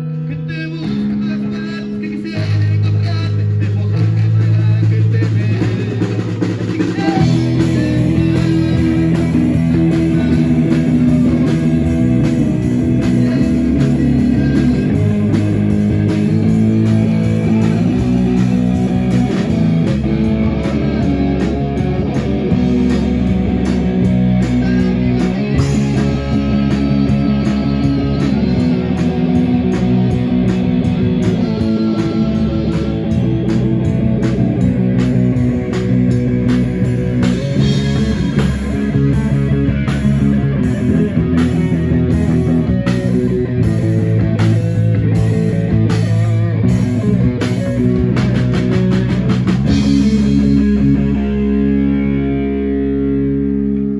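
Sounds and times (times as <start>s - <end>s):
bass guitar: 0.0s - 53.9s
drum kit: 0.0s - 53.9s
electric guitar: 0.0s - 53.9s
keyboard: 0.0s - 53.9s.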